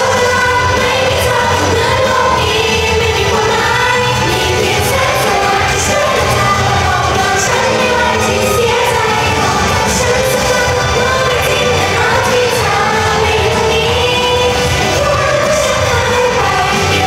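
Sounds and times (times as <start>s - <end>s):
band backing music: 0.0s - 17.0s
women singing together: 0.0s - 17.0s.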